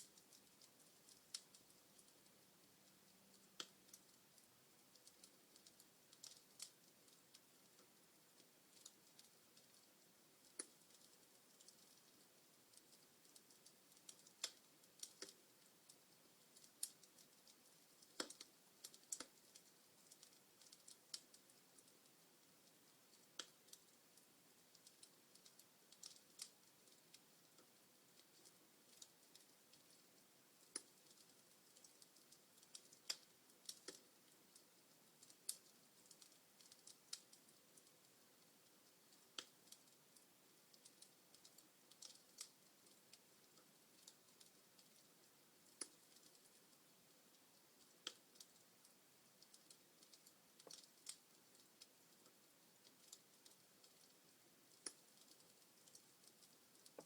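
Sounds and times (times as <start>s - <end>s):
faint hiss: 0.0s - 57.0s
wood fire crackling and popping: 0.0s - 57.0s.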